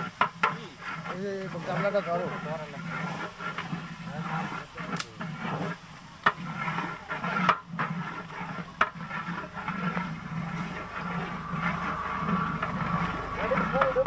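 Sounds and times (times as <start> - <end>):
meat sizzling in hot oil: 0.0 - 14.0.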